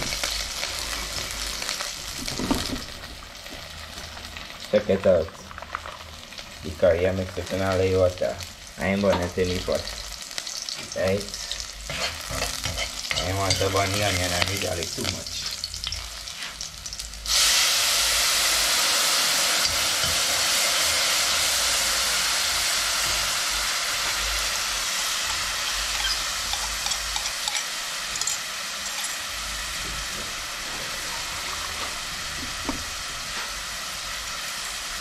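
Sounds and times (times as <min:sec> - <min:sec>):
curry sizzling in hot oil: 0:00.0 - 0:35.0.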